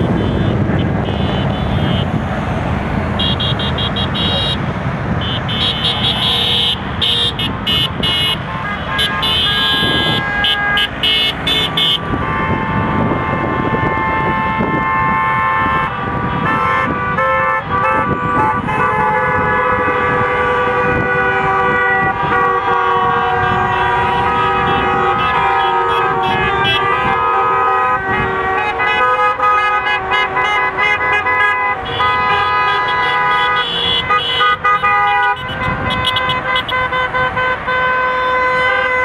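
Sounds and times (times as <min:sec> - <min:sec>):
car horns honking: 0:00.0 - 0:39.0
engine and tyre noise: 0:00.0 - 0:39.0.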